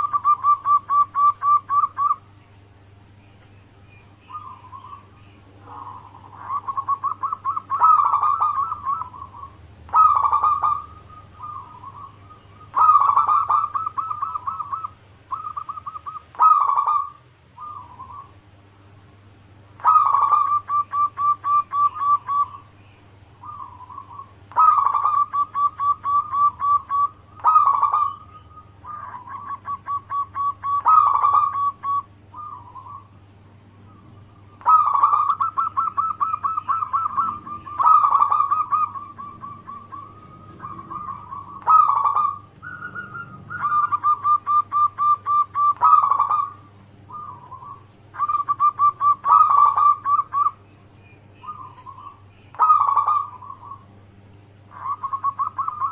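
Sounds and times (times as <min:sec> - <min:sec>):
dove cooing: 0:00.0 - 0:02.4, 0:04.2 - 0:18.4, 0:19.7 - 0:22.8, 0:23.4 - 0:50.6, 0:51.4 - 0:54.0, 0:54.6 - 0:55.9
low steady hum: 0:00.0 - 0:55.9.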